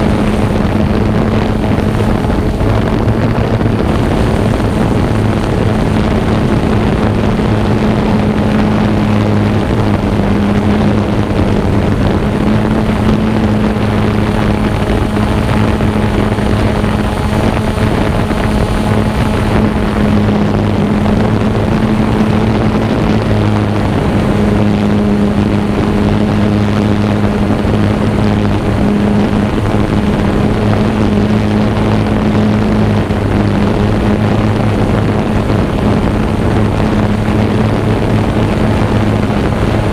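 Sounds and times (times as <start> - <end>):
drone propellers humming: 0.0 - 39.9
rushing wind noise: 0.0 - 39.9.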